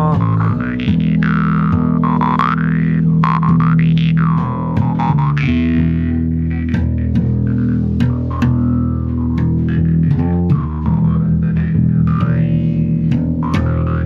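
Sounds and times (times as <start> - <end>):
electric bass drone: 0.0 - 14.0
jaw harp twanging: 0.0 - 14.0.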